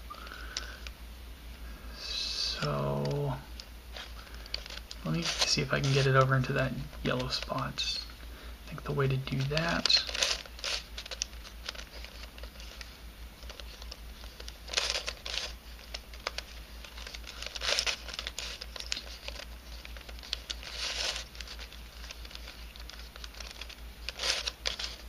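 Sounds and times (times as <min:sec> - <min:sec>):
puzzle pieces scraping and clicking: 0:03.9 - 0:08.1, 0:08.9 - 0:25.0.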